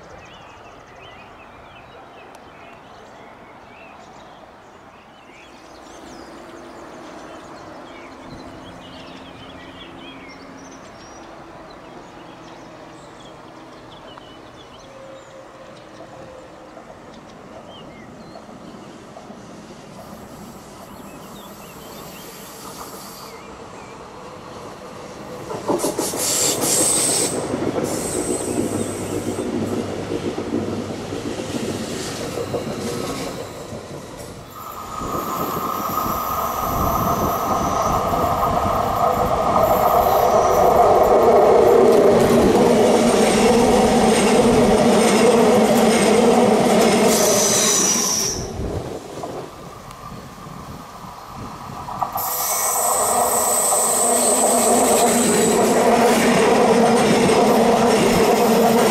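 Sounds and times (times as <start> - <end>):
electric train passing: 5.9 - 58.9.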